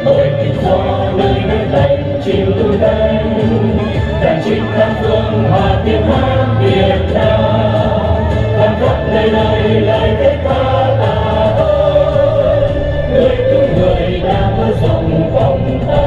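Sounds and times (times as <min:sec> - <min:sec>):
choir singing: 0:00.0 - 0:16.0
musical accompaniment: 0:00.0 - 0:16.0.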